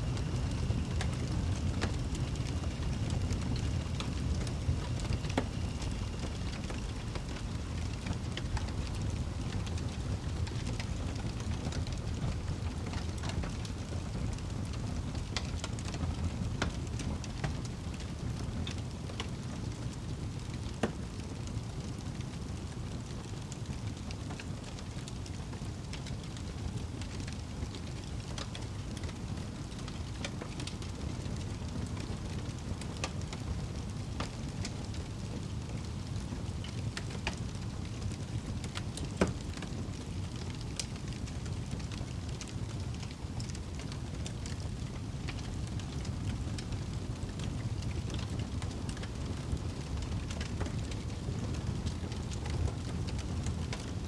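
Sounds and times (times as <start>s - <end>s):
wood fire crackling: 0.0s - 18.0s, 20.4s - 54.0s.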